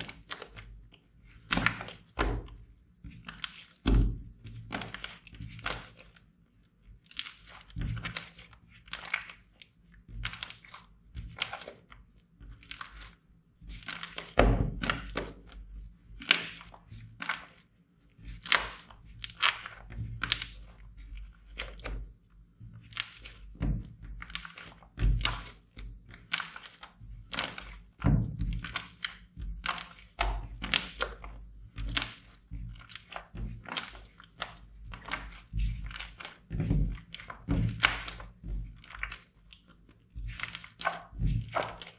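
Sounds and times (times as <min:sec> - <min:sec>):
slime squishing: 0:00.0 - 0:41.9.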